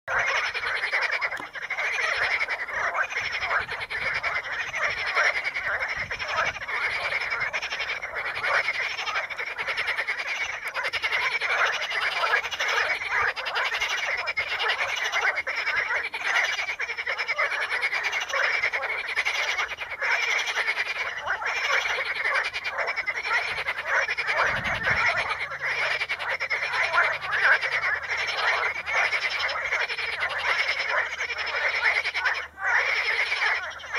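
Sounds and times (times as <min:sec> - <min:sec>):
frogs croaking: 0:00.1 - 0:33.9.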